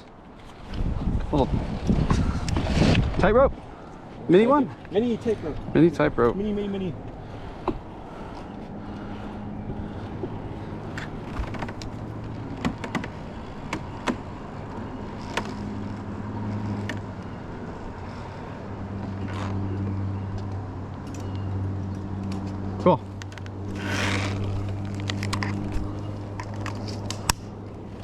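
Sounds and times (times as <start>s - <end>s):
low engine hum: 3.7s - 28.0s.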